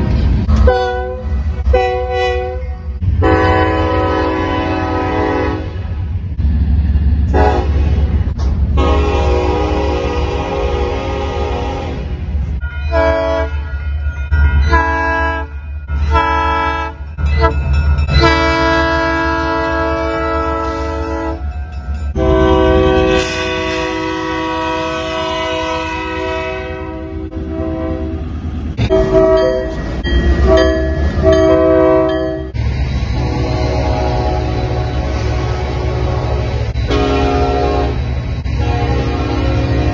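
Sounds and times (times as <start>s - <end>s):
low train rumble: 0.0s - 39.9s
locomotive horn blasts: 0.6s - 6.0s, 7.3s - 8.0s, 8.7s - 12.2s, 12.9s - 13.7s, 14.7s - 21.4s, 22.1s - 29.8s, 30.4s - 32.5s, 33.1s - 39.9s.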